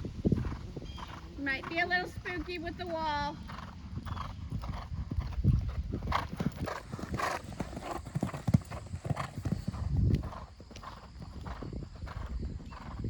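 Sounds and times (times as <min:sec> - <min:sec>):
horse hoofbeats: 0:00.0 - 0:13.0.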